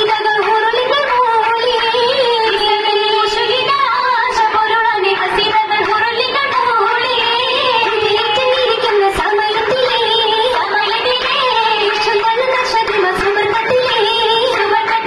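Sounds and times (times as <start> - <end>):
girls singing together: 0.0 - 15.0
hand claps: 0.0 - 15.0.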